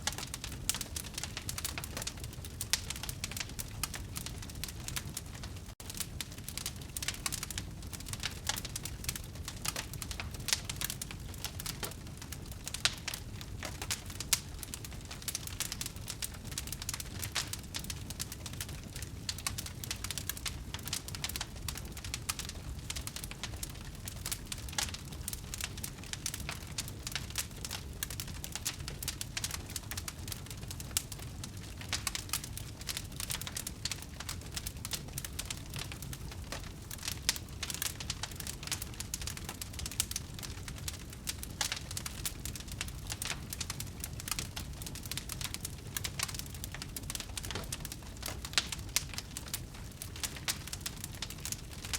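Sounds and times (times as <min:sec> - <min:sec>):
low fire rumble: 0:00.0 - 0:51.9
wood fire crackling: 0:00.0 - 0:51.9.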